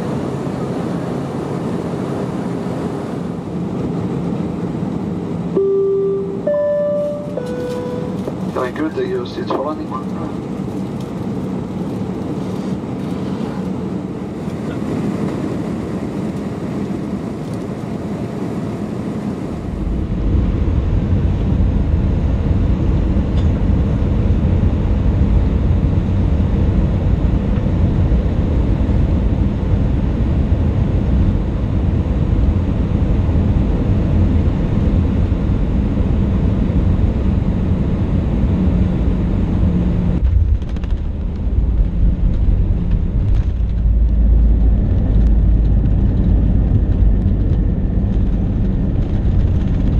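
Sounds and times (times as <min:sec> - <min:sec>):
aircraft engine and airflow noise: 0:00.0 - 0:49.9
heavy low runway rumble: 0:00.0 - 0:49.9.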